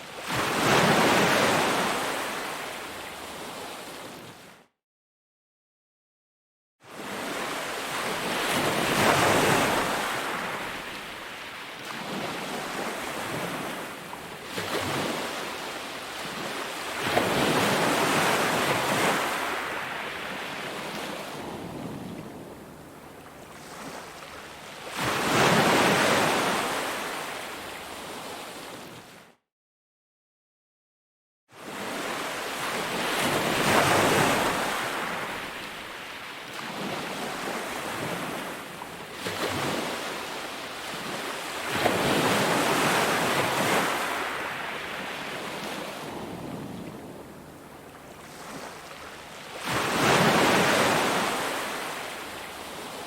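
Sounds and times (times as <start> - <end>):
sea waves breaking on beach: 0.0 - 4.4, 6.9 - 29.2, 31.6 - 53.0.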